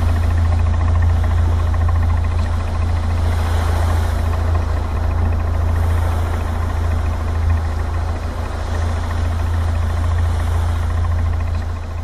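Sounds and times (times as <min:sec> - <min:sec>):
boat engine humming: 0:00.0 - 0:12.0
water rushing: 0:00.0 - 0:12.0.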